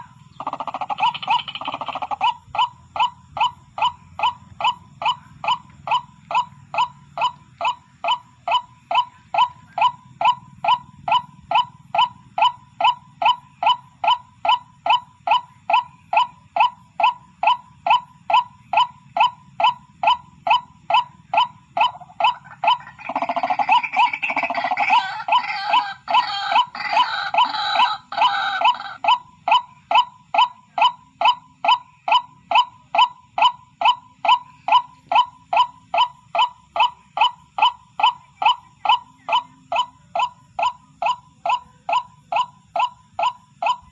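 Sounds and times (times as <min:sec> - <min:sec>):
waterhen calling: 0:00.0 - 0:43.9.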